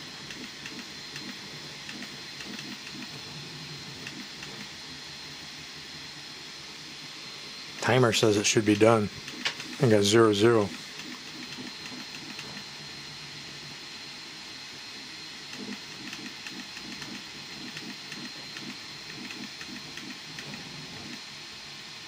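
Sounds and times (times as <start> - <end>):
stepper motor buzzing pulses: 0.0 - 5.8, 7.9 - 13.9, 15.4 - 21.2
fans hissing with high whine: 0.0 - 22.0.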